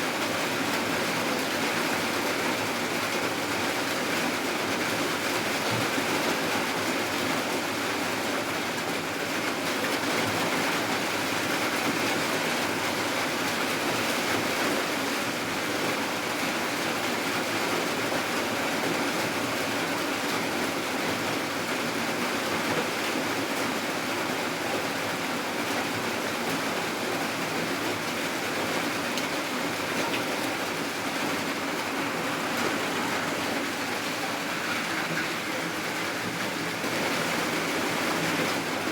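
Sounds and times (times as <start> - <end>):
heavy rainfall: 0.0 - 38.9.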